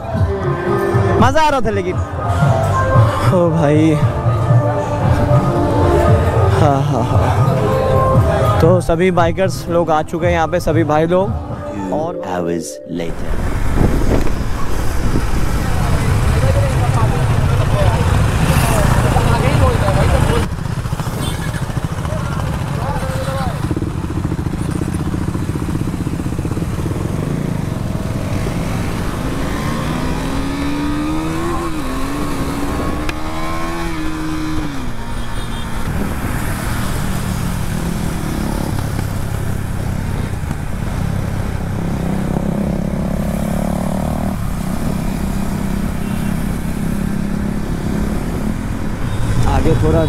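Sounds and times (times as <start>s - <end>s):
motorcycles accelerating: 0.0s - 12.1s, 13.1s - 50.0s.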